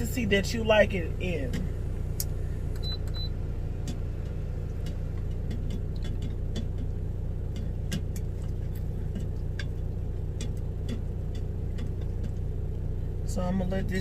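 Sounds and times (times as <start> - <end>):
engine idling: 0.0 - 14.0
light ticks and pops: 1.5 - 12.9.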